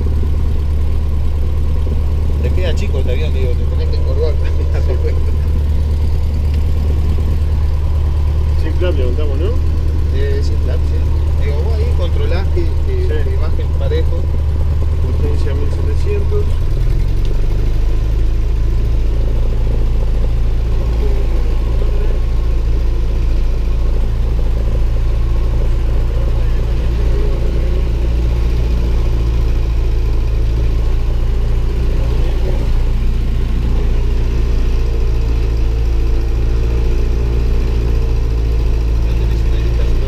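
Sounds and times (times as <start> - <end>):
aircraft piston engine running: 0.0 - 40.0.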